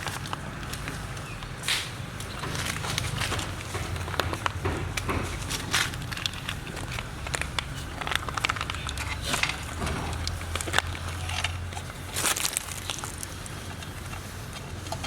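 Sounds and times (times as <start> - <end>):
puppies scuffling and playing: 0.0 - 15.0.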